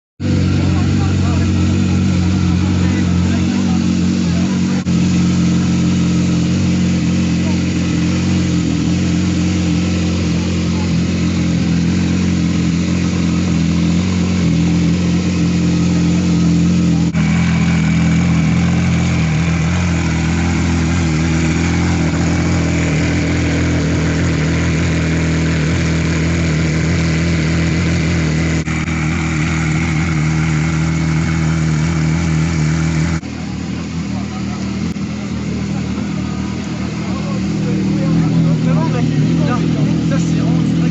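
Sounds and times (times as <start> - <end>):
car engine idling: 0.2 - 40.9.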